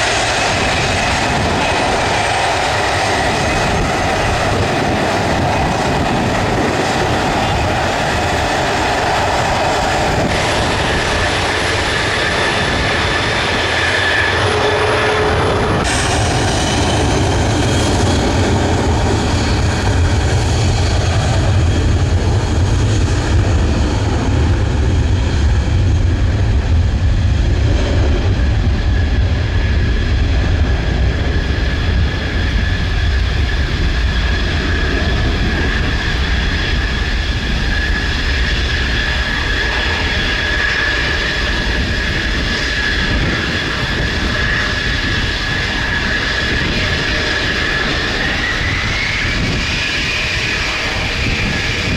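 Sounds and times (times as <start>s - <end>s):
jet engines rumbling and whining: 0.0s - 51.9s.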